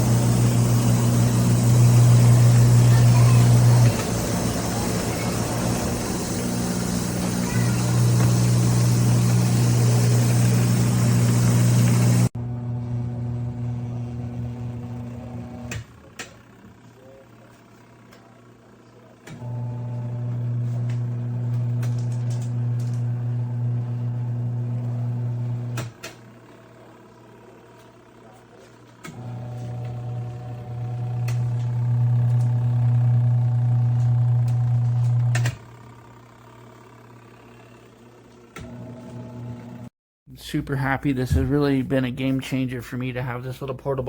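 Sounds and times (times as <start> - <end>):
washing machine motor humming: 0.0 - 39.9.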